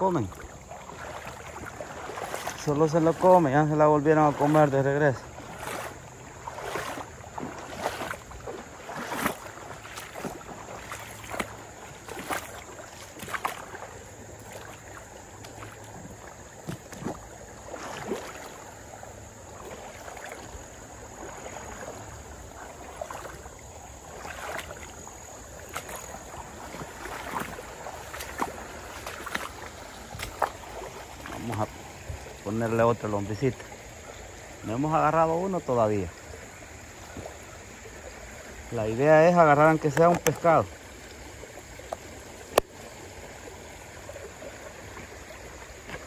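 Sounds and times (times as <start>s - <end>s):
shallow creek flowing: 0.0s - 46.0s.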